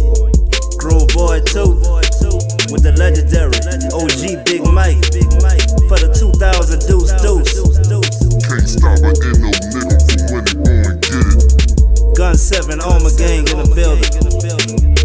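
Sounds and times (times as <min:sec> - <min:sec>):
deep bass line: 0:00.0 - 0:15.0
hi-hats and claps: 0:00.0 - 0:15.0
hip hop beat: 0:00.0 - 0:15.0
vocal over beat: 0:00.0 - 0:15.0.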